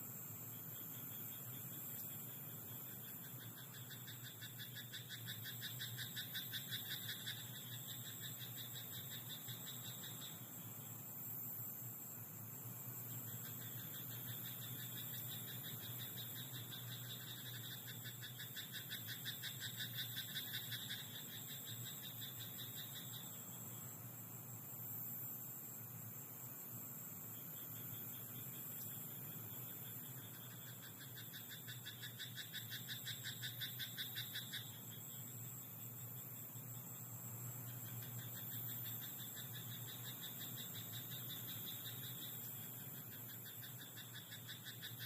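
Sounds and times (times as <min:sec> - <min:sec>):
frogs croaking in trills: 0:00.0 - 0:45.0
steady high hiss: 0:00.0 - 0:45.0.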